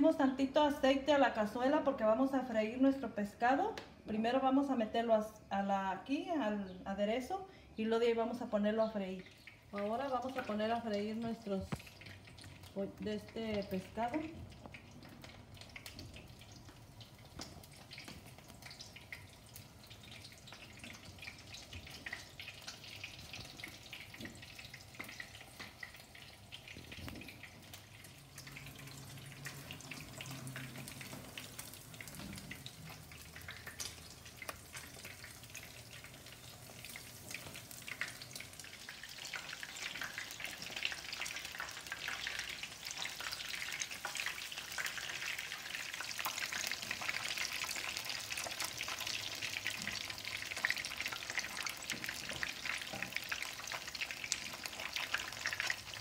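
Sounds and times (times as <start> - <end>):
fish frying in oil sizzling: 8.3 - 56.0.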